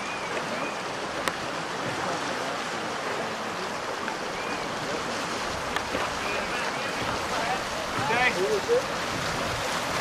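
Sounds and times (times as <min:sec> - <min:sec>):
creek rapids rushing: 0:00.0 - 0:10.0.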